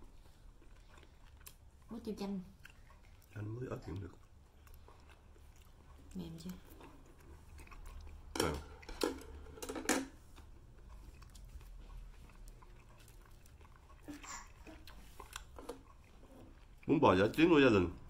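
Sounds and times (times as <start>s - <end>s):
person chewing bread: 0.0s - 18.0s.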